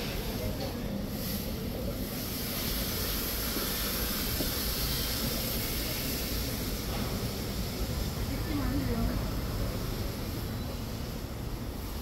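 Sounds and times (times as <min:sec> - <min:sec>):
hiss: 0:00.0 - 0:12.0
street rumble: 0:00.0 - 0:12.0.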